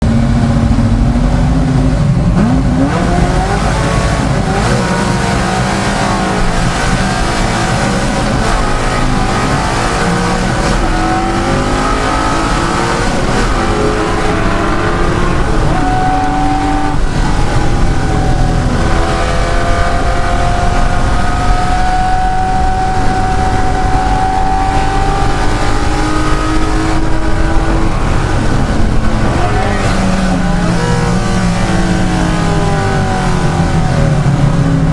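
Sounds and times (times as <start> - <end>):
racing car engine revving: 0.0 - 34.9.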